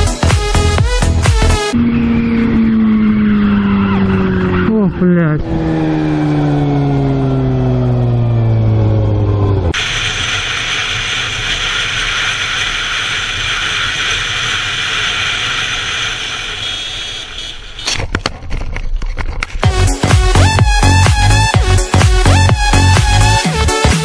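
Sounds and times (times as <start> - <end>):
motorcycle engine slowing: 1.6 - 23.4
motorcycle riding at speed: 1.6 - 23.4.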